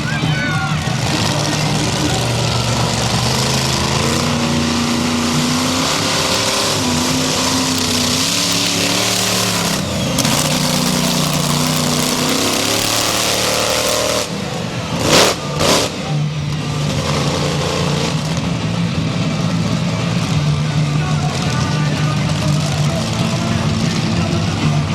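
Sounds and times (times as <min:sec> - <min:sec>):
monster truck engine revving: 0:00.0 - 0:24.9.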